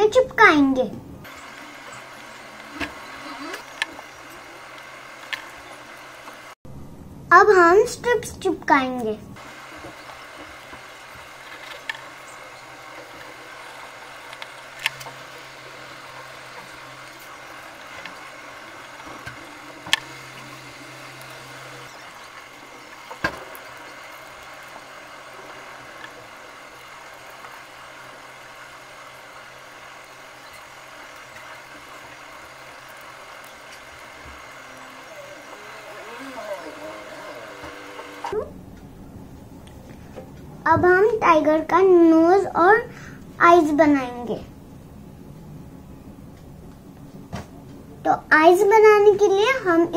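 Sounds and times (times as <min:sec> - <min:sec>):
background hum and hiss: 0:00.0 - 0:49.9.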